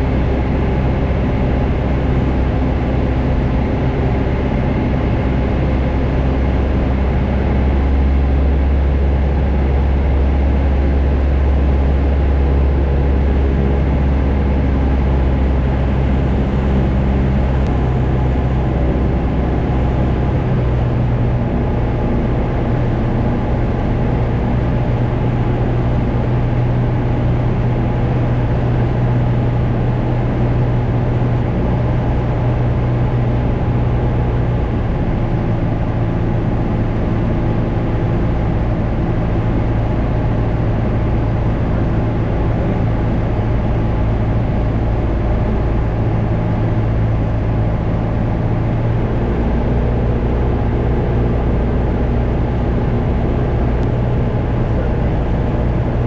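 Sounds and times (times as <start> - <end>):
propeller airplane droning: 0.0 - 56.0.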